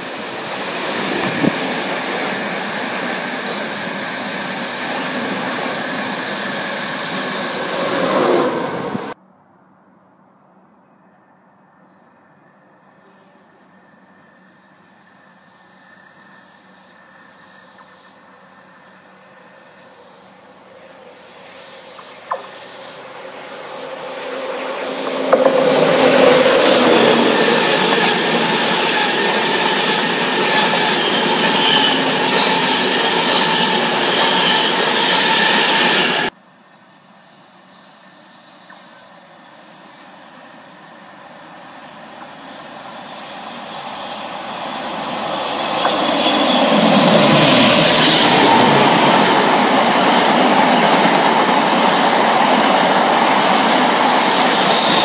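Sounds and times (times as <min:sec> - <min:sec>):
diesel train rushing past: 0:00.0 - 0:09.2, 0:13.5 - 0:36.3, 0:39.5 - 0:55.0
electric train passing: 0:00.0 - 0:09.2, 0:12.2 - 0:55.0.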